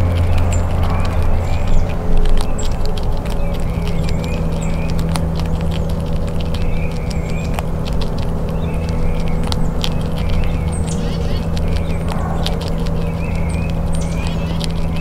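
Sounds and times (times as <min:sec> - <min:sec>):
low mechanical hum: 0:00.0 - 0:15.0
squirrel chewing nuts: 0:00.0 - 0:15.0.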